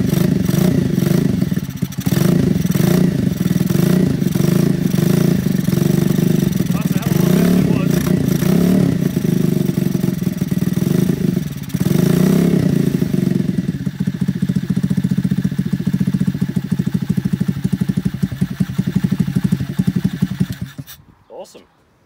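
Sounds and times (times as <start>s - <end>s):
small motorcycle engine idling: 0.0s - 20.9s.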